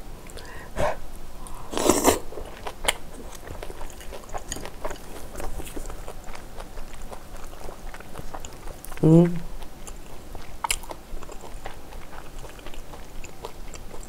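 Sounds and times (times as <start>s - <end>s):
wet chewing clicks: 2.5s - 14.0s.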